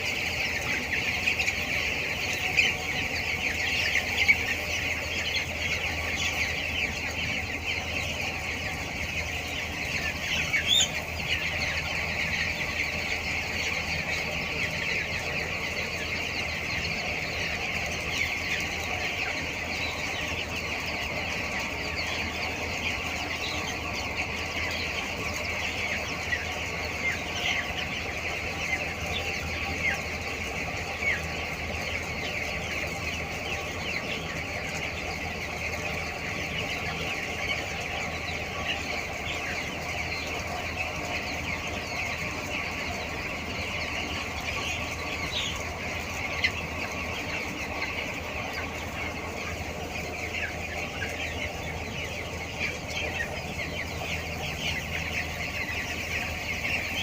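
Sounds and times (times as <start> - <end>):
chicks peeping and cheeping: 0.0 - 57.0.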